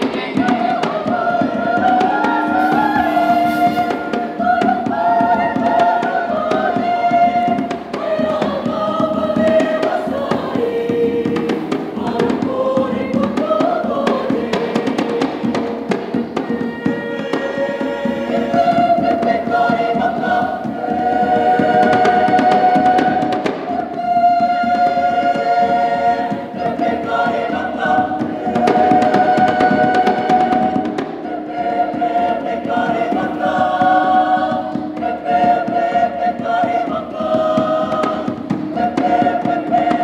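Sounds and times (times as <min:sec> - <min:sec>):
mixed choir singing: 0:00.0 - 0:40.0.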